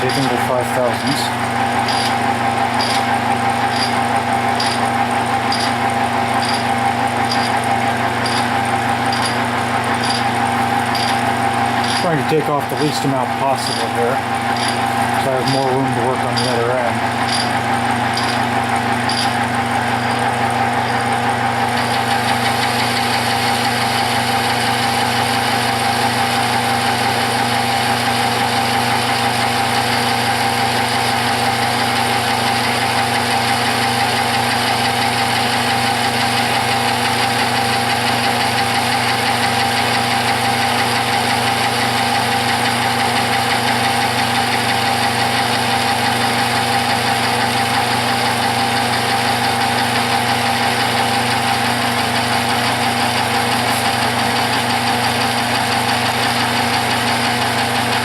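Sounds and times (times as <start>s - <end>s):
metal lathe humming: 0.0s - 58.0s.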